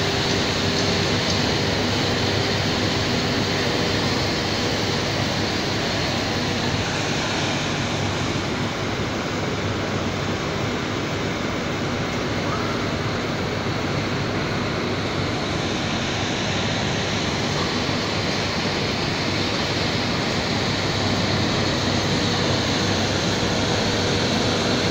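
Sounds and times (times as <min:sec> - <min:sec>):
industrial machinery roaring: 0:00.0 - 0:24.9.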